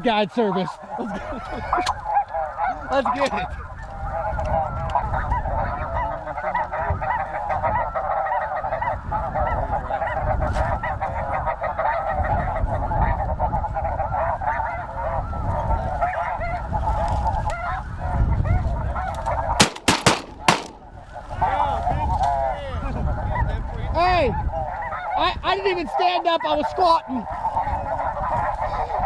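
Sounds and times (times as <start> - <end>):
flock of geese honking: 0.0 - 29.0.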